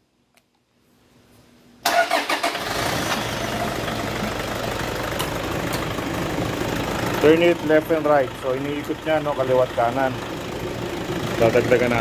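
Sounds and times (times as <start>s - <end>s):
diesel engine starting and idling: 1.8s - 12.0s.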